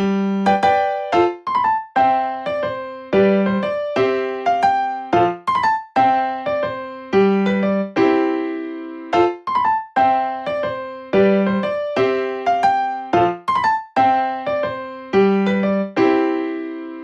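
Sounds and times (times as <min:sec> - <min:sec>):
light piano tune: 0:00.0 - 0:17.0.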